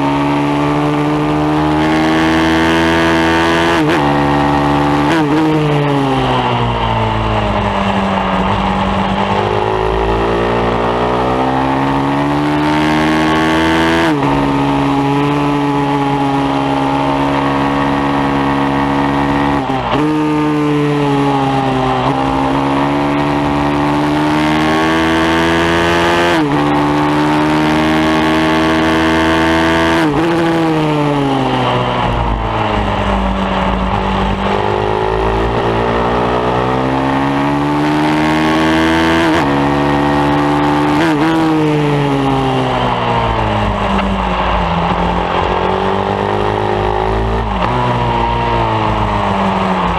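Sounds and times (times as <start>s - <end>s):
pit bike engine revving: 0.0s - 6.6s, 7.3s - 49.9s.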